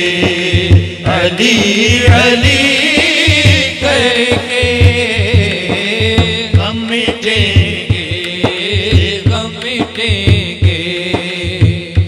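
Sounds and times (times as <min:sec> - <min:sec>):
hand drum beat: 0:00.0 - 0:12.0
men singing devotional song: 0:00.0 - 0:12.0.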